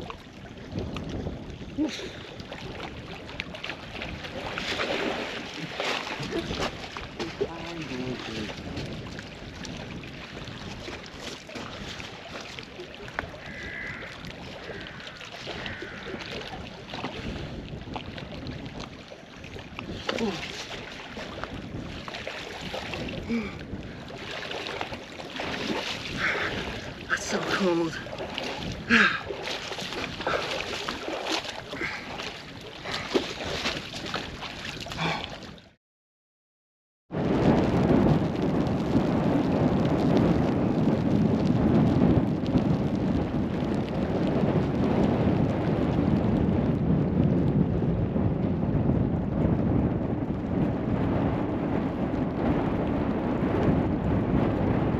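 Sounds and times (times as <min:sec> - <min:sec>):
water lapping and splashing: 0:00.0 - 0:35.8, 0:37.2 - 0:54.9
wind: 0:00.0 - 0:35.8, 0:37.1 - 0:54.9.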